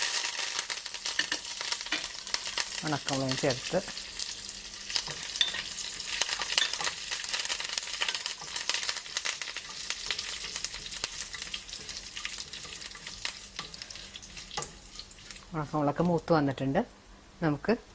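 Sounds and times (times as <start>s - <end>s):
spices sizzling in hot oil: 0.0s - 17.0s.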